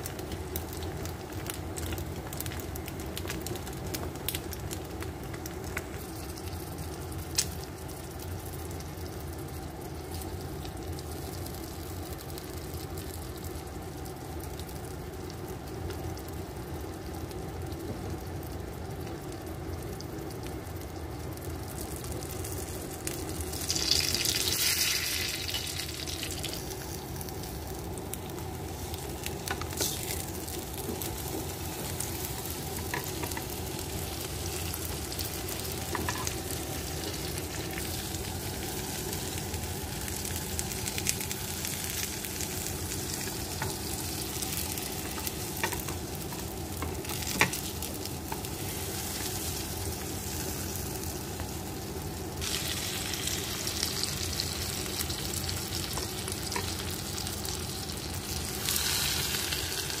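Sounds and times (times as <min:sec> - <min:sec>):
omelette sizzling in a pan: 0:00.0 - 1:00.0.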